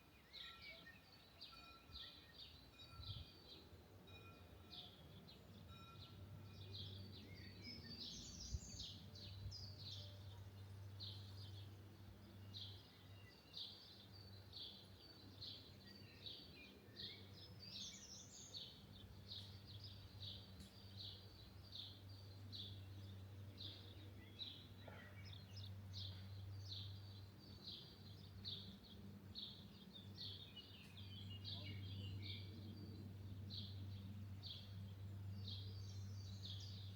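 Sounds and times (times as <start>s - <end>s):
small birds chirping: 4.7s - 36.9s.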